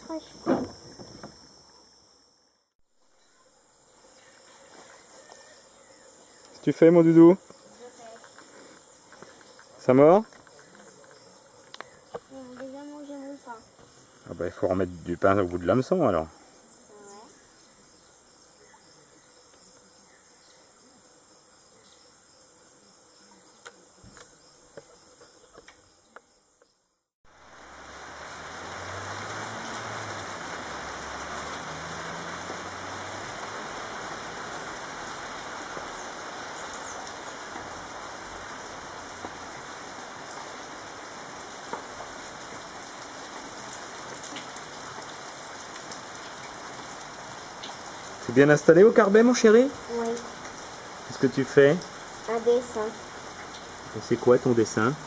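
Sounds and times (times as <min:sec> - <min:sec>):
insects chirring: 0:00.0 - 0:55.0
steady rain hiss: 0:03.0 - 0:26.2, 0:27.3 - 0:55.0.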